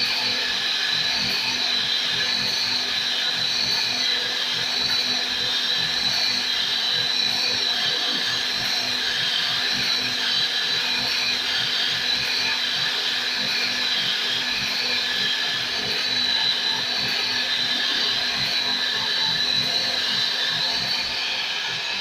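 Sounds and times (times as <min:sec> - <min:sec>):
router spindle cutting wood: 0:00.0 - 0:22.0.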